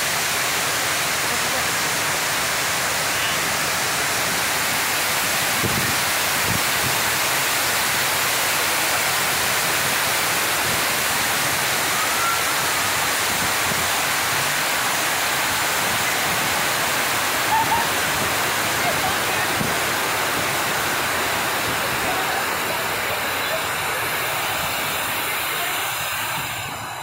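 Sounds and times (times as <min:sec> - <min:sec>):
waterfall fountain rushing and splashing: 0:00.0 - 0:27.0.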